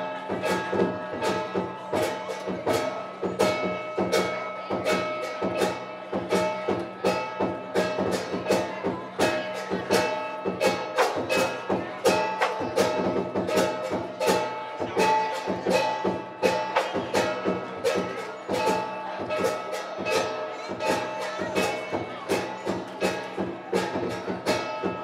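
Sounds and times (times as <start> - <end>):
cymbals clashing: 0.0 - 25.0
drum beating fast rhythm: 0.0 - 25.0.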